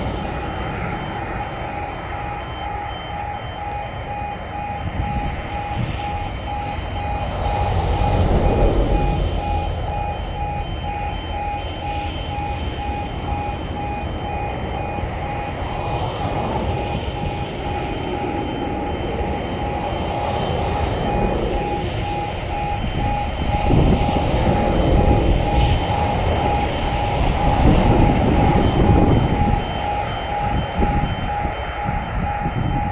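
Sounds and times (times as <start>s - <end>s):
level crossing alarm beeping: 0.0s - 32.9s
wind rumbling on microphone: 0.0s - 32.9s.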